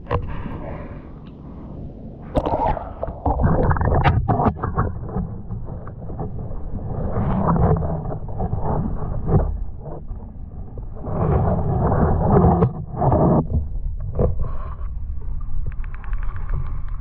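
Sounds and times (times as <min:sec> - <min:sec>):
low underwater rumbling: 0:00.0 - 0:17.0
underwater gurgling: 0:02.2 - 0:17.0.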